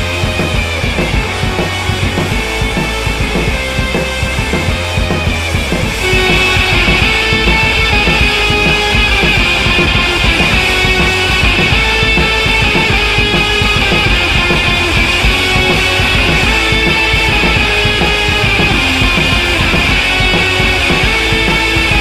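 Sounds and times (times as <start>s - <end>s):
rock music with guitar and drums: 0.0s - 22.0s.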